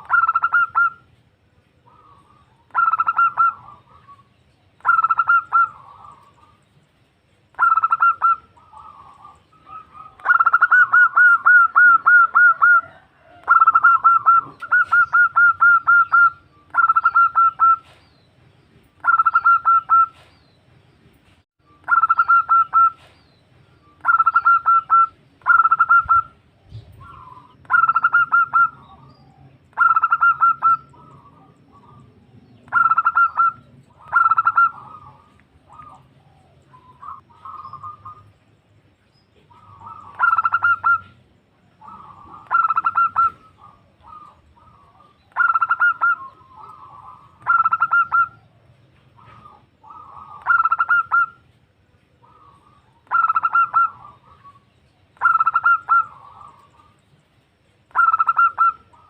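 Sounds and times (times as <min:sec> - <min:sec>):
dove staccato cooing: 0:00.0 - 0:01.1, 0:01.8 - 0:06.6, 0:07.5 - 0:18.0, 0:19.0 - 0:20.3, 0:21.9 - 0:23.2, 0:24.0 - 0:38.4, 0:39.4 - 0:57.0, 0:57.9 - 0:59.0.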